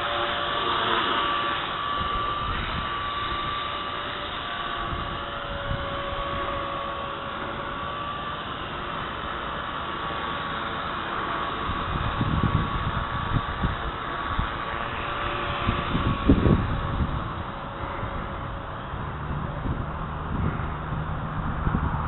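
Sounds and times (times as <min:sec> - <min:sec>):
radio-controlled helicopter whine: 0:00.0 - 0:22.0
wind on microphone: 0:01.6 - 0:09.2, 0:11.2 - 0:22.0.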